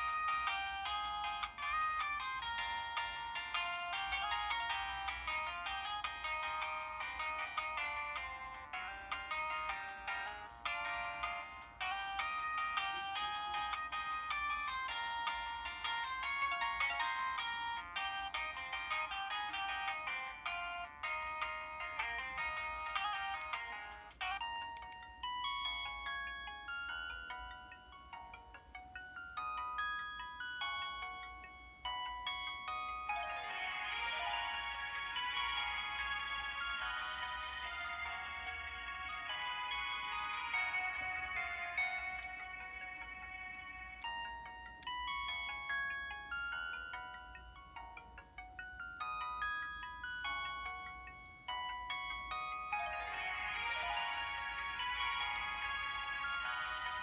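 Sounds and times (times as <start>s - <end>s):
bell-like mallet ringtone: 0.0s - 57.0s
busy electronic ringtone melody: 0.0s - 57.0s.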